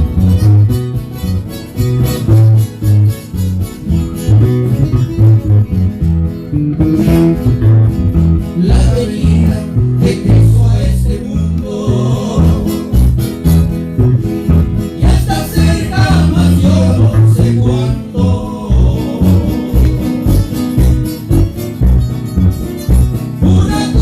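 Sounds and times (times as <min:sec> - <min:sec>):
plucked and strummed guitars: 0:00.0 - 0:24.0
walking bass line: 0:00.0 - 0:24.0.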